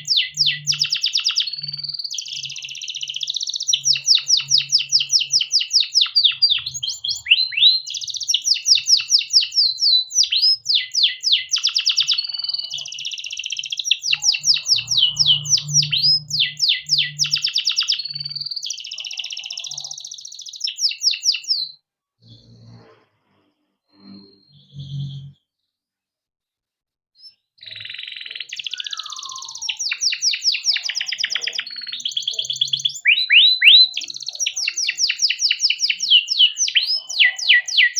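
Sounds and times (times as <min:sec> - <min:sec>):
canary singing trills: 0:00.0 - 0:22.6, 0:24.0 - 0:25.4, 0:27.2 - 0:37.9.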